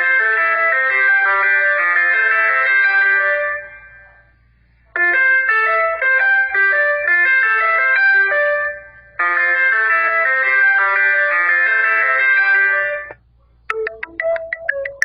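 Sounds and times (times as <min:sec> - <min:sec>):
phone ringtone tune: 0:00.0 - 0:04.0, 0:05.0 - 0:13.1, 0:13.7 - 0:15.0
bell-like electronic melody: 0:00.0 - 0:04.2, 0:05.0 - 0:13.1, 0:13.7 - 0:15.0.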